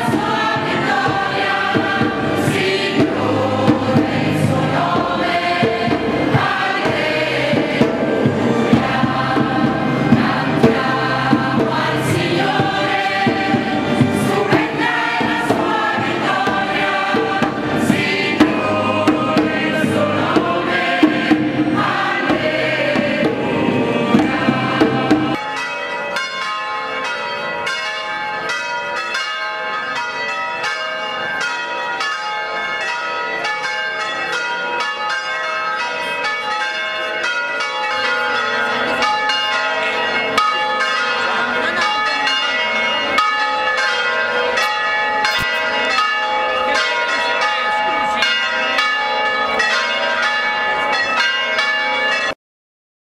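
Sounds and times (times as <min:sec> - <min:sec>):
church bells pealing: 0:00.0 - 0:52.4.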